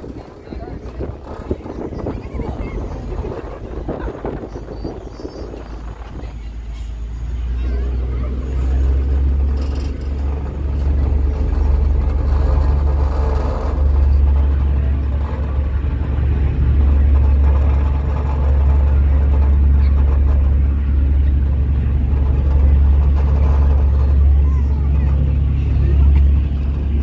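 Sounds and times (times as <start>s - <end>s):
ferry engines droning: 0.0s - 27.0s
water noise: 0.0s - 27.0s
wind: 0.0s - 27.0s.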